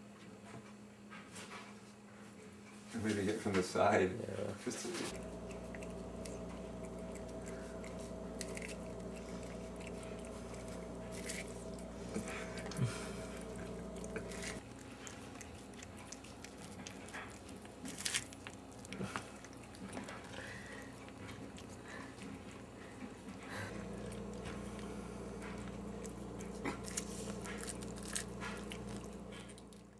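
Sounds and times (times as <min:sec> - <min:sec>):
steady background hum: 0:00.0 - 0:29.9
cat chewing corn: 0:05.1 - 0:29.9.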